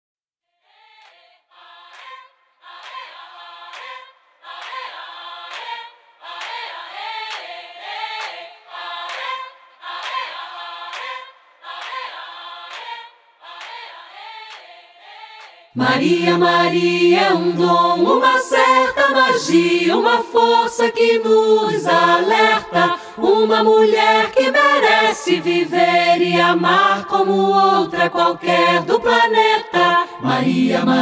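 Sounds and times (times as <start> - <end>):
a cappella vocal ensemble singing: 0.6 - 31.0.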